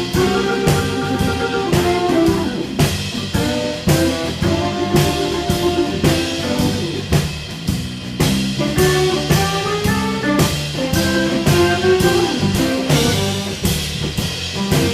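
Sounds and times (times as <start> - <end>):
drum kit beat: 0.0 - 14.9
guitar: 0.0 - 14.9
organ chords: 0.0 - 14.9.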